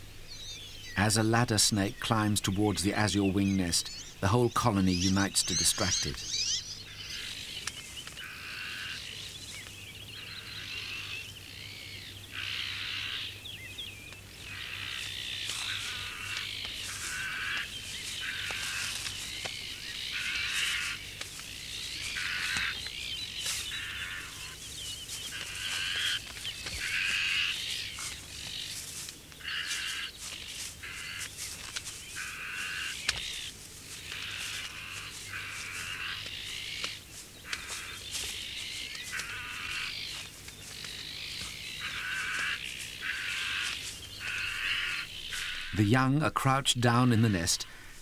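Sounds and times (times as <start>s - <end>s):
magpies giving harsh alarm calls: 0.6s - 48.0s.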